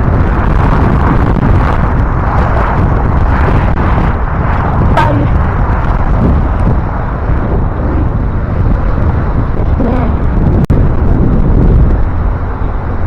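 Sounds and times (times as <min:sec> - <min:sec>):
bicycle tyre noise: 0:00.0 - 0:13.0
wind buffeting microphone: 0:00.0 - 0:13.0.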